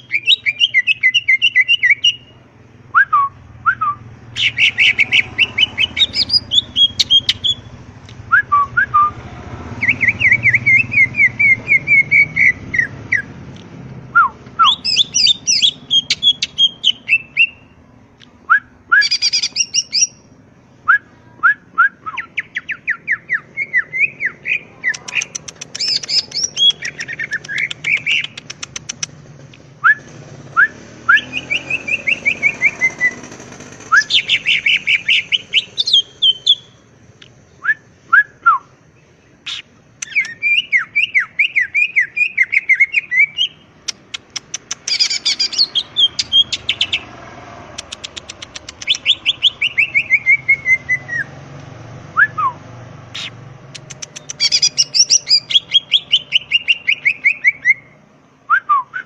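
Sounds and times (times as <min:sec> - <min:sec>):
bird singing varied song: 0:00.0 - 0:51.4, 0:52.1 - 0:59.0.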